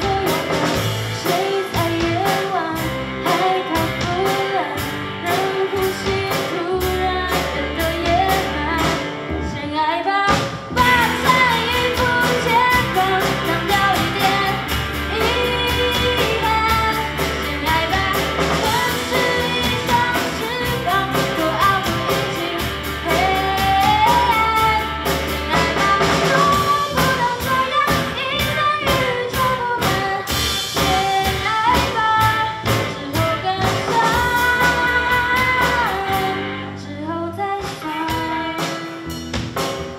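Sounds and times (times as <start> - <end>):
drums and cymbals: 0.0 - 9.6, 10.2 - 36.6, 37.6 - 39.9
person singing lead vocals: 0.0 - 39.1
live pop-rock band playing: 0.0 - 39.9.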